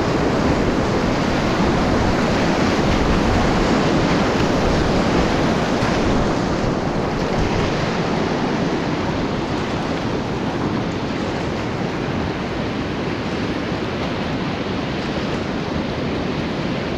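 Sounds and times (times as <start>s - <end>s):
whitewater rushing: 0.0s - 16.9s.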